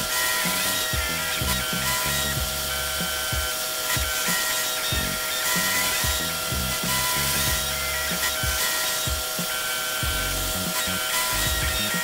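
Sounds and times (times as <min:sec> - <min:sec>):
background music with bass line: 0:00.0 - 0:12.0
end mill cutting metal: 0:00.0 - 0:12.0.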